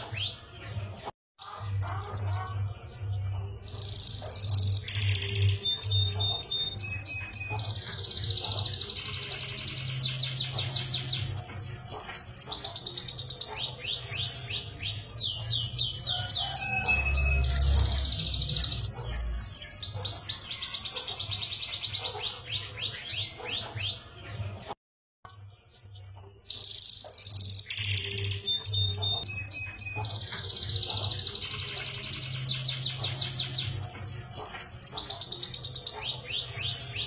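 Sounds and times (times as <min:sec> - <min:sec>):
canary singing trills: 0:00.0 - 0:24.3, 0:25.3 - 0:37.0.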